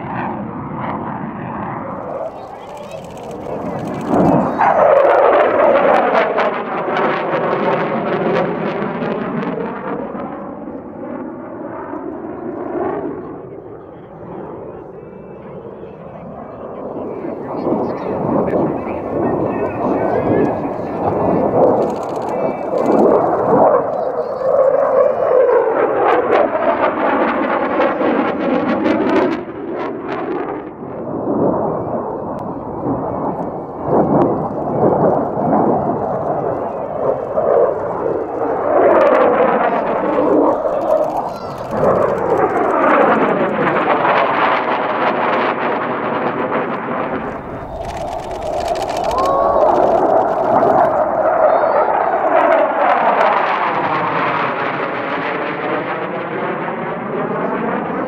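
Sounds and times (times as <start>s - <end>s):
jet passing with crackle: 0.0s - 58.0s.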